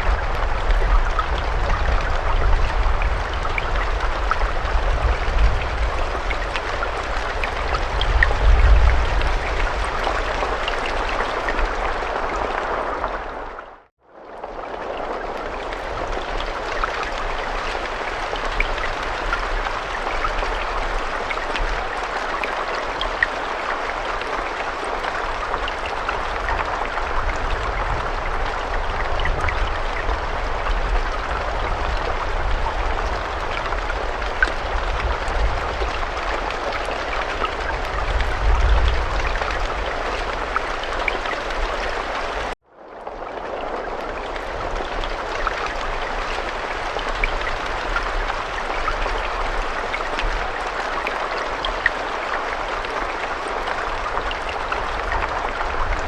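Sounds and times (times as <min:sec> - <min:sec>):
individual raindrops: 0:00.0 - 0:56.0
steady rain hissing: 0:00.0 - 0:56.0.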